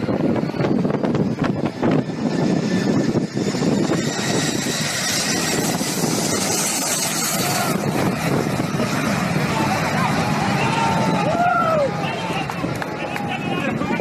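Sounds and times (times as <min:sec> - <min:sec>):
jet engines roaring with whine: 0:00.0 - 0:14.0.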